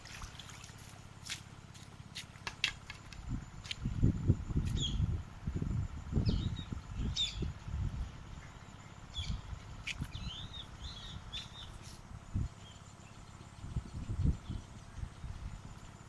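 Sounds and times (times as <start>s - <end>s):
small birds chirping: 2.1s - 16.0s
low rumble on microphone: 3.1s - 16.0s.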